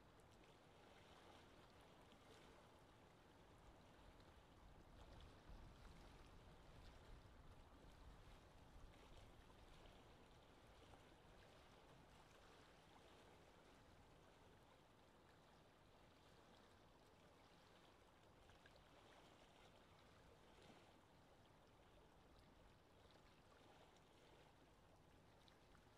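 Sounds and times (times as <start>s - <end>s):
wind over water: 0.0s - 25.9s.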